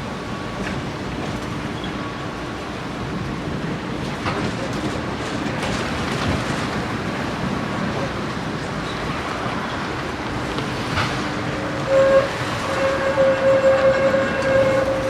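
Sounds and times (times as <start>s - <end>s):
tram rumbling along rails: 0.0s - 15.0s.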